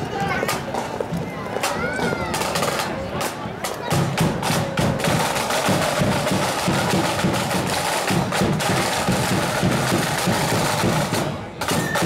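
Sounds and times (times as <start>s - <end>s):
marching drums playing: 2.0s - 12.0s.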